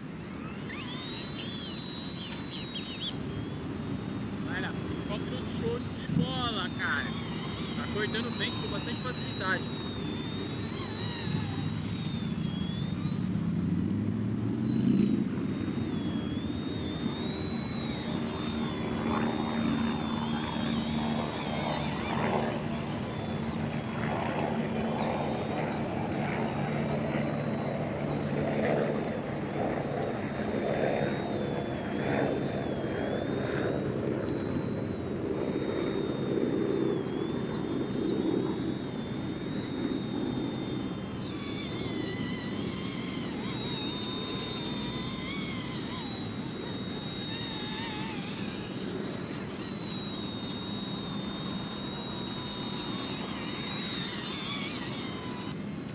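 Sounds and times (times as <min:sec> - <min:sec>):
electric motor whine: 0:00.0 - 0:55.9
rotor blades buzzing: 0:00.0 - 0:55.9.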